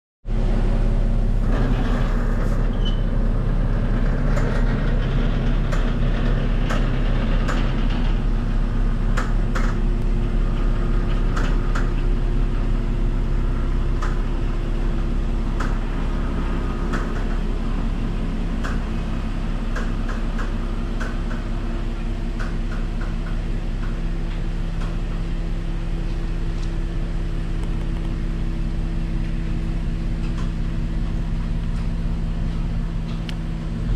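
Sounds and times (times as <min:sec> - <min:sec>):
car exhaust running steadily: 0:00.2 - 0:33.9.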